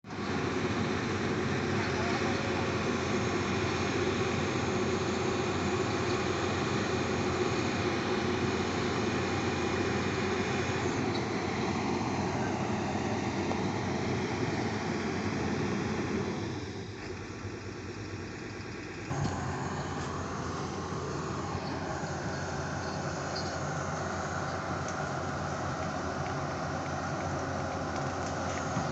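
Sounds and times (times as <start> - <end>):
heavy equipment engine running: 0.0 - 28.9.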